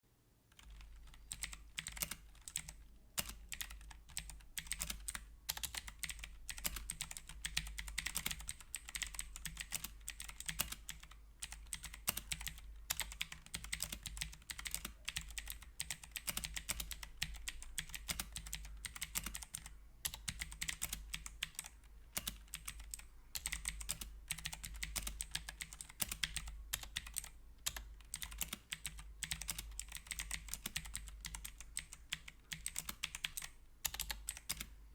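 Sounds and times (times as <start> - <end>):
mechanical keyboard clicking: 0.5 - 34.7.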